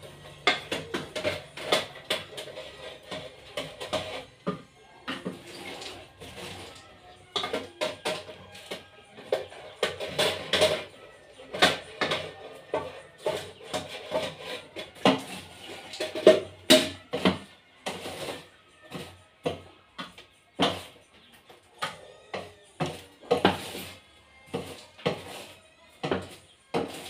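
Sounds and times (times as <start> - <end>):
metal scoop scraping on glass: 0.0 - 4.5, 5.2 - 19.1, 22.8 - 27.0.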